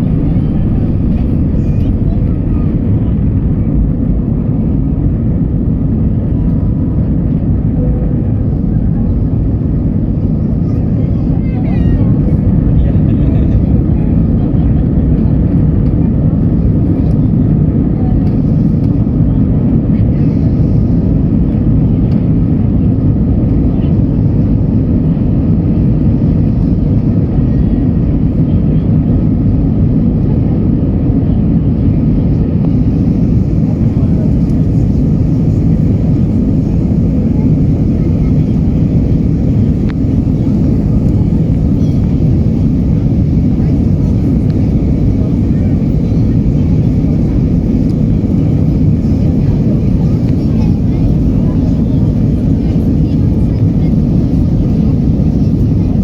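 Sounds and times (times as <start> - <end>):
jet engine cabin roar: 0.0 - 56.0.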